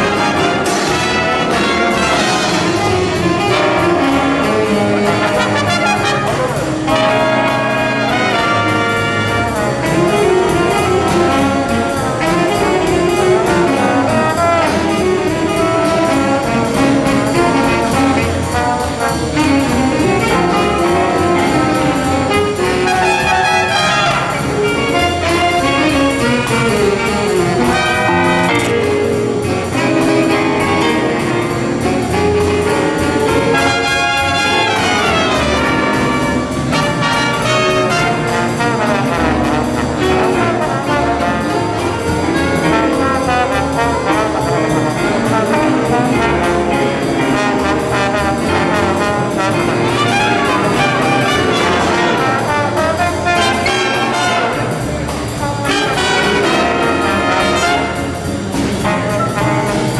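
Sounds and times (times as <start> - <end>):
jazz big band playing: 0.0 - 59.9.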